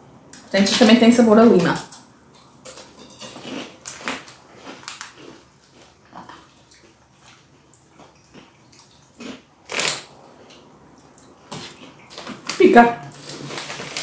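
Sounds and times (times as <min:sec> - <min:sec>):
chewing crunchy snacks: 0:02.4 - 0:14.0.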